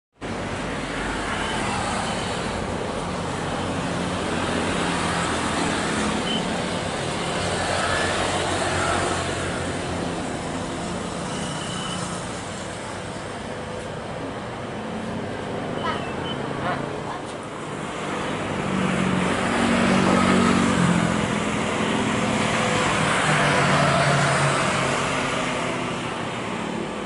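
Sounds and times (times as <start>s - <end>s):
jet engines at taxi power: 0.2s - 27.0s.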